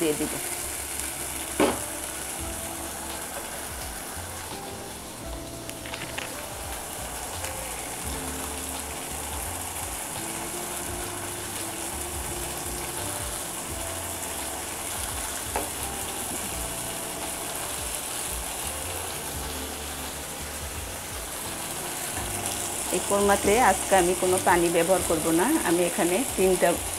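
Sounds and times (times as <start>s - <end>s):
quiet background music: 0.0s - 26.9s
sauce sizzling in a frying pan: 0.0s - 26.9s.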